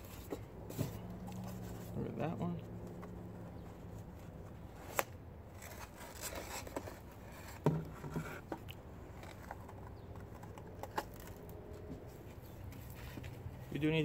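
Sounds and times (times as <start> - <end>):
air filter rustling and scraping: 0.0 - 14.0.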